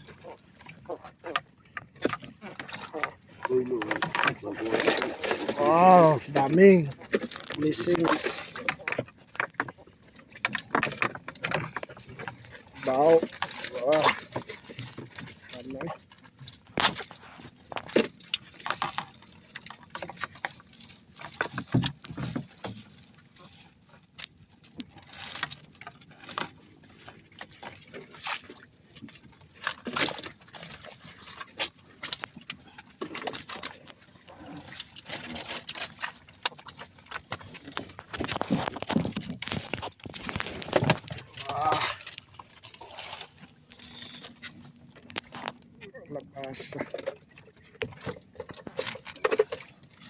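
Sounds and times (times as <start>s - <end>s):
water splashing and dripping: 0.0s - 50.0s.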